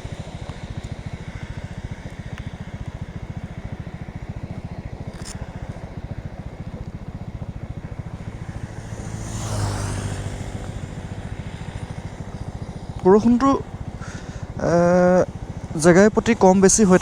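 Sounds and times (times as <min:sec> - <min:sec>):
motorcycle engine idling: 0:00.0 - 0:17.0
passing vehicle: 0:00.0 - 0:17.0.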